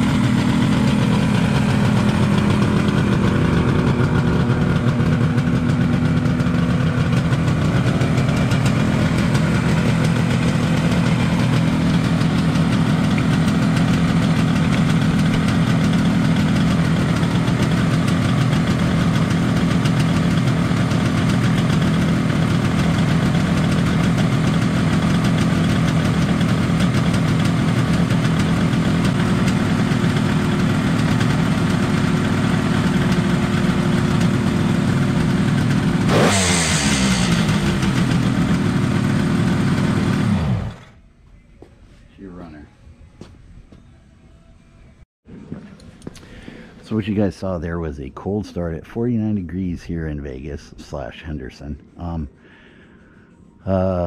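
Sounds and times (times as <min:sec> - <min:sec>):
motorcycle engine idling: 0:00.0 - 0:44.1, 0:44.8 - 0:51.0.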